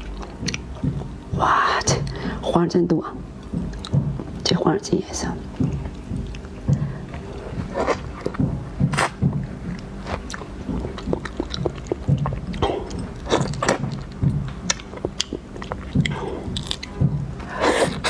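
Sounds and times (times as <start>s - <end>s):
person chewing wetly: 0.0s - 1.3s, 3.4s - 4.5s, 5.4s - 18.0s.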